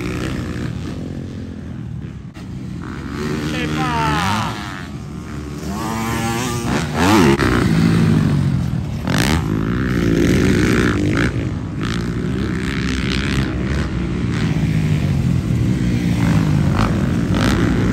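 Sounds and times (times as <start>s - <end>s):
dirt bike engines revving: 0.0s - 17.9s.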